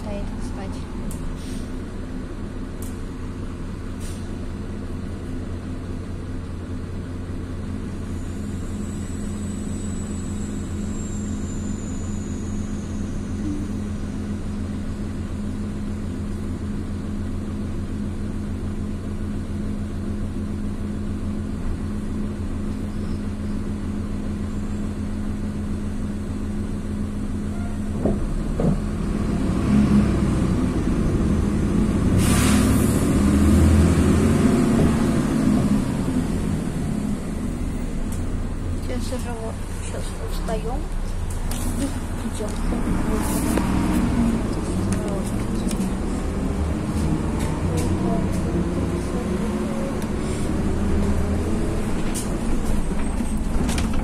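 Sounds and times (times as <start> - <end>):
bus engine idling: 0.0 - 54.0
bus pulling away: 0.0 - 54.0.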